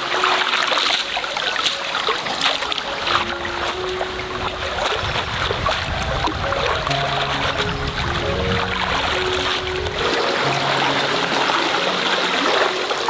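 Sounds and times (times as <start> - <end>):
soft background music: 0.0 - 13.0
water splashing and trickling: 0.0 - 13.0.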